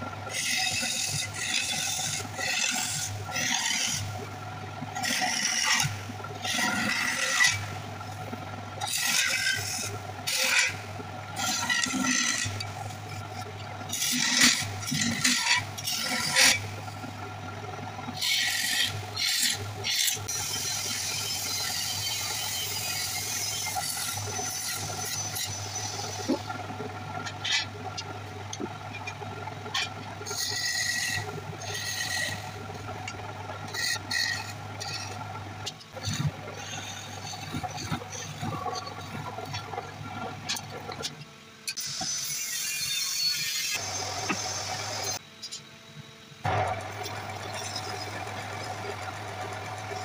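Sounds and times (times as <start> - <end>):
wood lathe humming: 0.0 - 41.0, 43.8 - 45.2, 46.4 - 50.0
chisel scraping spinning wood: 0.2 - 41.2, 43.8 - 45.2, 46.5 - 50.0.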